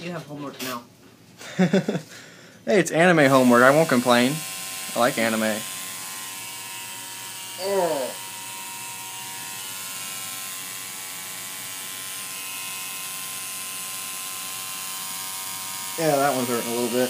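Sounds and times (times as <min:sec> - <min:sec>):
tattoo machine buzzing: 0:03.2 - 0:17.0.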